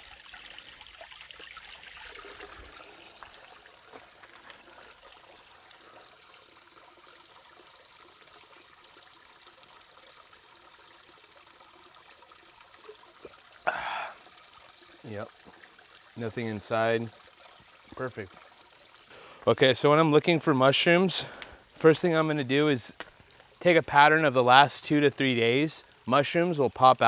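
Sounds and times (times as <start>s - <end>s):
water trickling over rocks: 0.0s - 27.0s.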